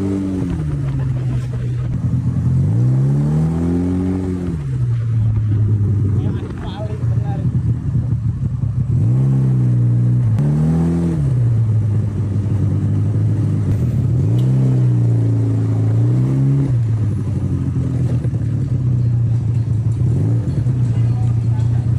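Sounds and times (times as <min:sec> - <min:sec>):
engine idling and revving: 0:00.0 - 0:21.9.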